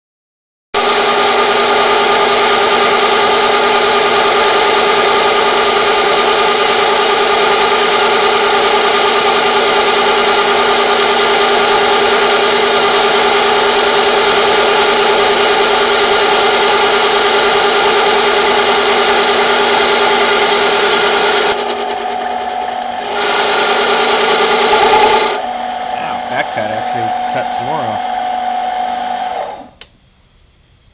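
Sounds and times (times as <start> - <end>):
lathe motor whining: 0.8 - 29.9.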